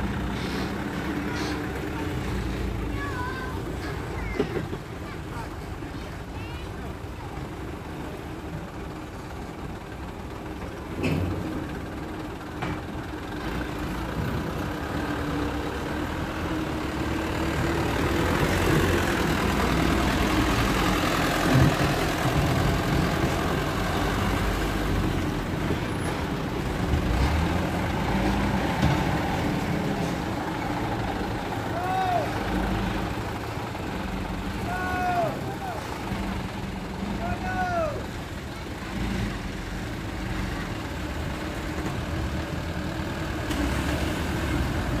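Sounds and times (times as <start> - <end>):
dump truck diesel engine: 0.0 - 45.0.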